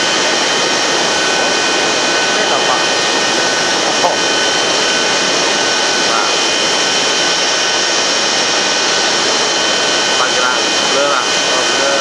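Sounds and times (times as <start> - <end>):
high-pitched turbine whine: 0.0 - 12.0
jet turbine running: 0.0 - 12.0.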